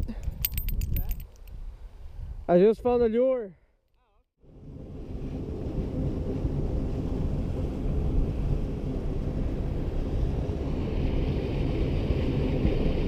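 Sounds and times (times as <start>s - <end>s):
wind buffeting microphone: 0.0s - 3.1s, 4.5s - 13.0s.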